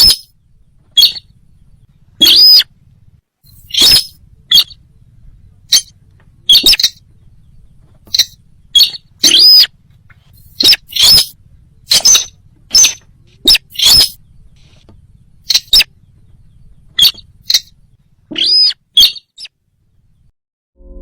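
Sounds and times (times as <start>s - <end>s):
bird calls: 0.0s - 20.3s.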